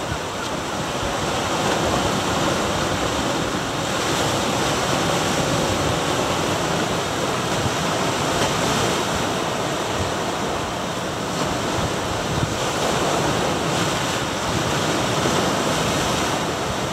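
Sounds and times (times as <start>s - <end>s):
surf washing over rocks: 0.0s - 16.9s.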